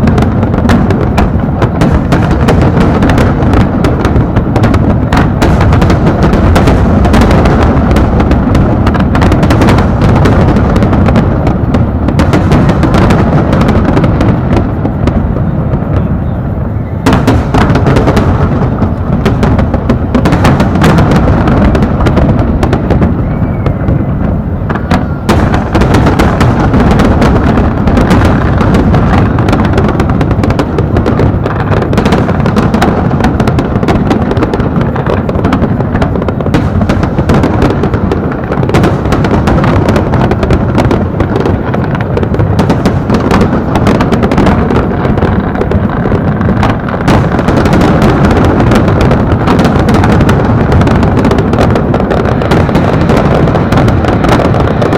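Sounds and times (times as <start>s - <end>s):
fireworks banging: 0.0s - 54.9s.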